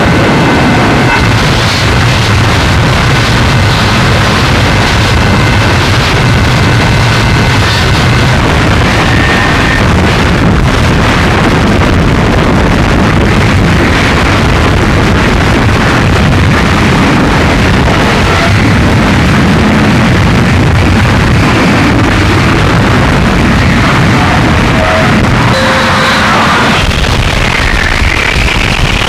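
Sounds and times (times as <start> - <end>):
distorted noise music: 0.0 - 29.0.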